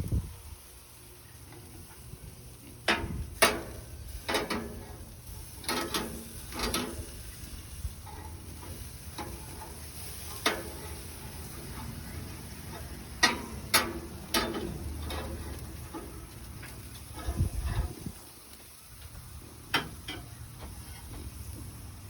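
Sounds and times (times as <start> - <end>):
metal spatula scraping grill grates: 1.4 - 18.4, 19.6 - 21.7.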